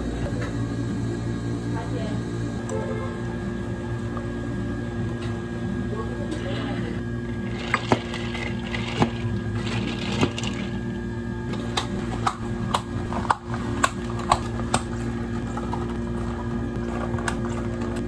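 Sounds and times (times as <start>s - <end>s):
cafe equipment hum: 0.0s - 18.0s.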